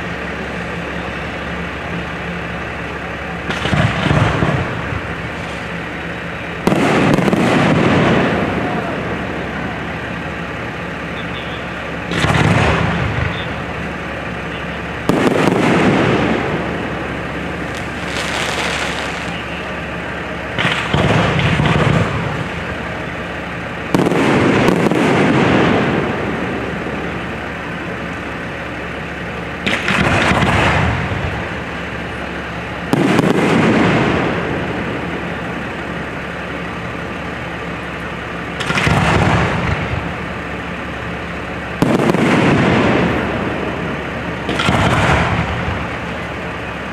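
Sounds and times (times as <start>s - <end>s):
fireworks booming overhead: 0.0s - 46.9s
steady background hiss: 0.0s - 46.9s.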